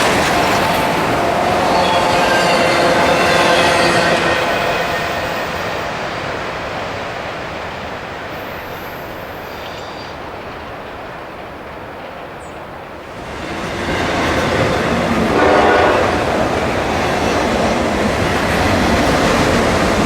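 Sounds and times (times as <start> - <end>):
freight train rolling by: 0.0 - 20.0.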